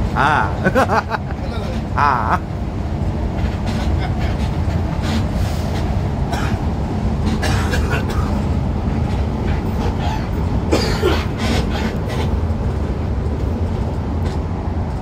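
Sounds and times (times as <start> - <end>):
coach engine rumble: 0.0 - 15.0
interior rattles and clicks: 2.6 - 15.0.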